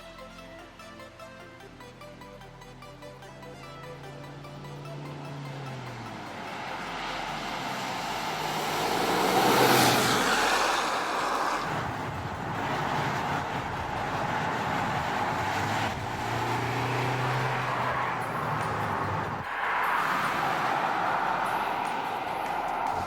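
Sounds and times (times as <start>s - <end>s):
road noise: 0.0s - 23.0s
car engine droning: 2.0s - 23.0s.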